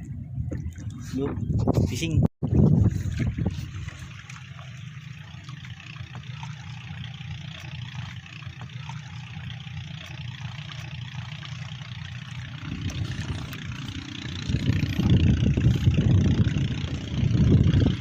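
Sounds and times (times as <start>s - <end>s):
small boat engine running: 0.0s - 18.0s.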